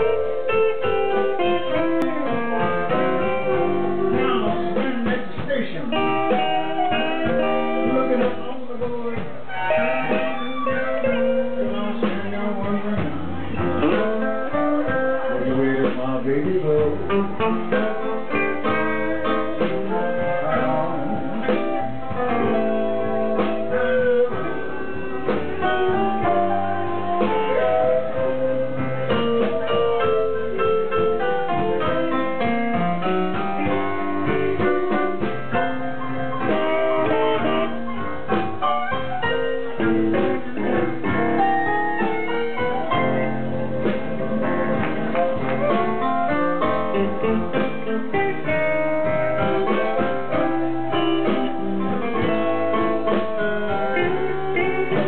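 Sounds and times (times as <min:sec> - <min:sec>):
guitar: 0:00.0 - 0:55.0
live blues band: 0:00.0 - 0:55.0
piano: 0:00.0 - 0:55.0.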